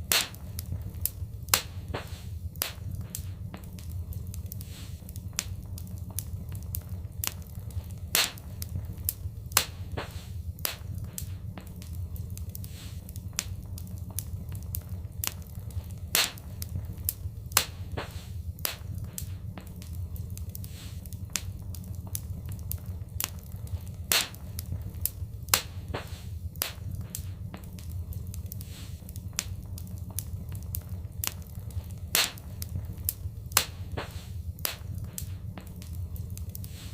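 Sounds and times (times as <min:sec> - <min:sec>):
loud fire pops: 0:00.0 - 0:36.9
low rumble: 0:00.0 - 0:36.9
wood fire crackling: 0:00.0 - 0:36.9.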